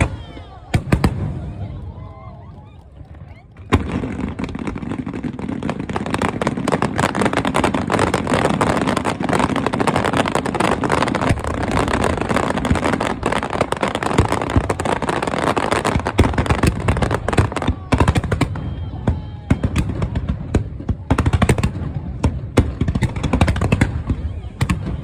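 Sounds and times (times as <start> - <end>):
fireworks booms: 0.0 - 25.0
fireworks crackling and bursting: 0.0 - 25.0.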